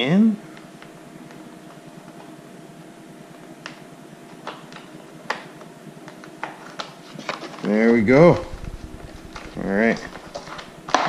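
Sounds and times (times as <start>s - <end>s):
steady hum: 0.0s - 6.5s, 7.7s - 11.0s.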